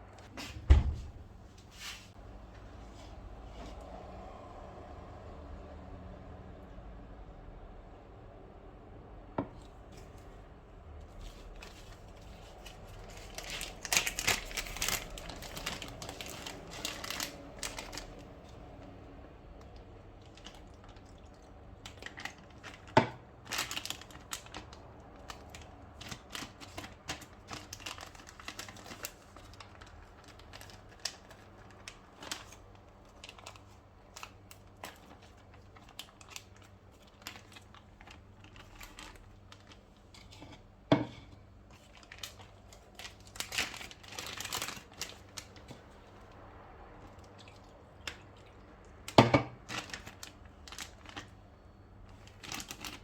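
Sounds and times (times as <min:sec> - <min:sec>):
crinkling and rustling: 0:09.5 - 0:53.0.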